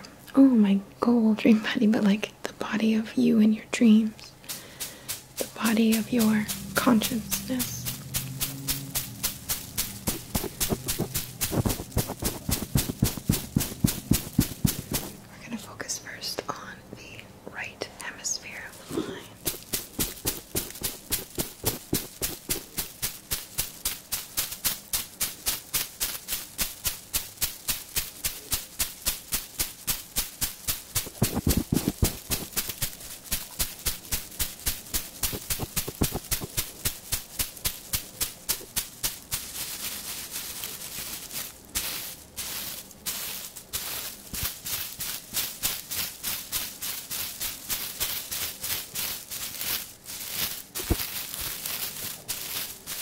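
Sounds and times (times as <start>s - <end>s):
dried herb bundle tapping: 4.3s - 15.3s, 18.8s - 53.0s.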